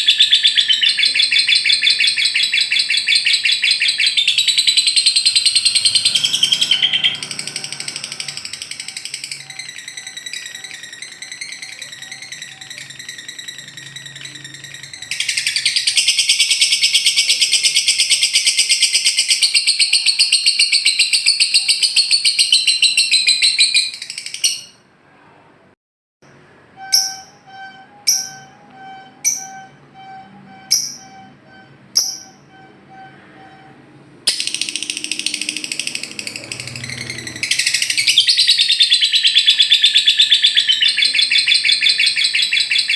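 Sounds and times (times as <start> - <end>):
songbird fast high trill: 0.0 - 24.7, 26.8 - 42.9
sharp high bird chirps: 0.0 - 24.9, 26.8 - 42.9.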